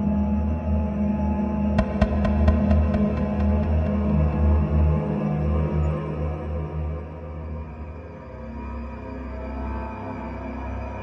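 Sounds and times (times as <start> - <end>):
horror soundtrack music: 0.0 - 11.0.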